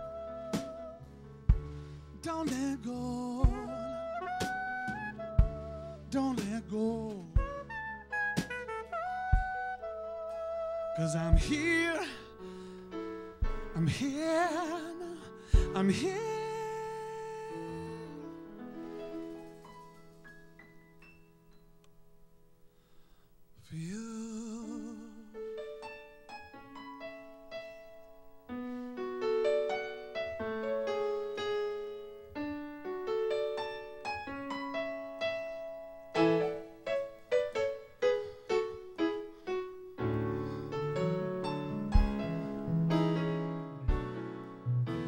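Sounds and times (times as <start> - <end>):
piano keyboard notes and chords: 0.0 - 22.9, 24.0 - 45.0.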